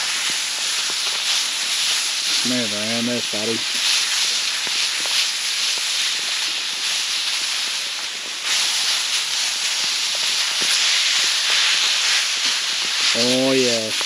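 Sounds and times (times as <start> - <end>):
meat sizzling on a grill plate: 0.0 - 14.0.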